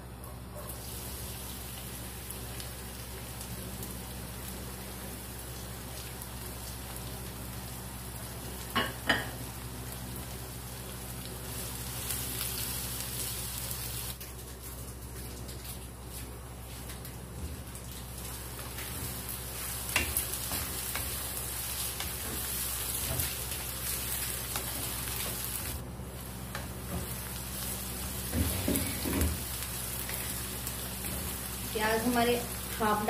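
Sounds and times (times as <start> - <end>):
onions sizzling in hot oil: 0.7 - 14.3, 15.5 - 33.0.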